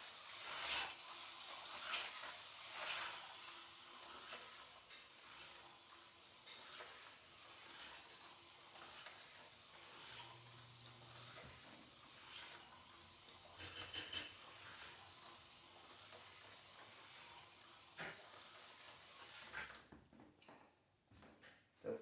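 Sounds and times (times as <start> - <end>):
slot car whirring: 0.0 - 19.8.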